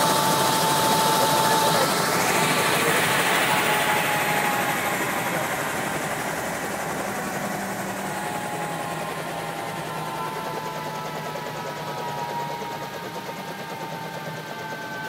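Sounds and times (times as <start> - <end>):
helicopter engine and rotor: 0.0 - 15.0
turbine whine falling in pitch: 0.0 - 15.0.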